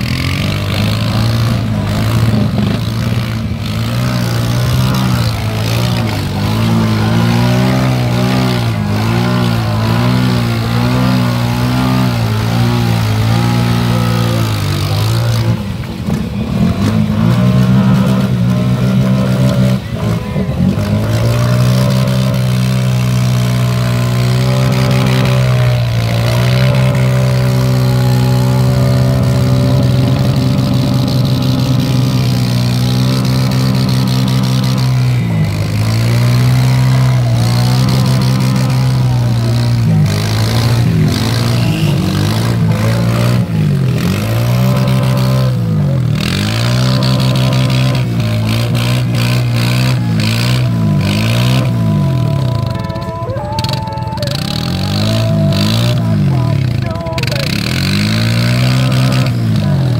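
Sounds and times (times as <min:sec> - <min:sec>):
atv engine revving in mud: 0:00.0 - 0:59.9.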